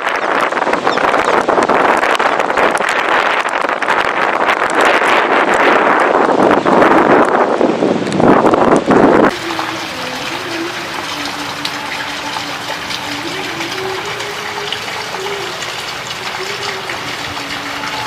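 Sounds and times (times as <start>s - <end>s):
heavy rain: 0.0s - 18.0s
wind buffeting: 0.0s - 18.0s.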